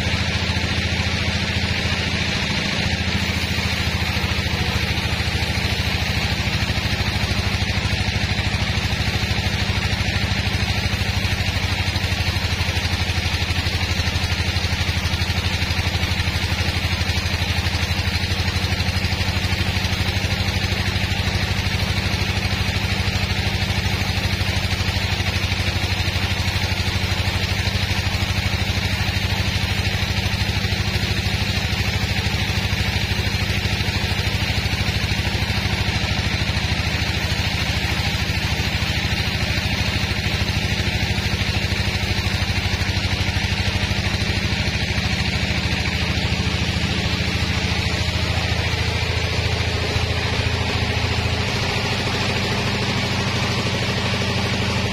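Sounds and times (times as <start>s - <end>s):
band saw cutting log: 0.0s - 54.9s.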